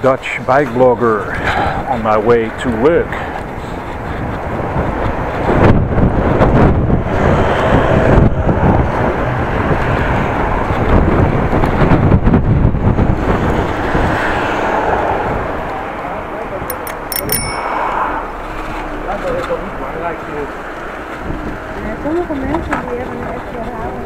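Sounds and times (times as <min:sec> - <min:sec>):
road and tyre noise: 0:00.0 - 0:24.0
wind buffeting microphone: 0:00.2 - 0:24.0.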